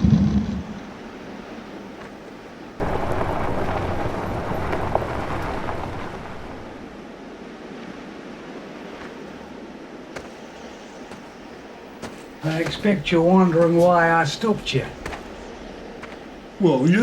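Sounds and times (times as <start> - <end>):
vehicle road and wind noise: 0.0 - 14.0.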